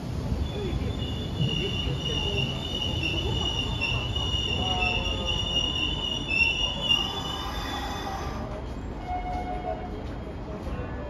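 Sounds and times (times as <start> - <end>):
train low rumble: 0.0 - 11.0
train wheels squealing: 0.4 - 10.0.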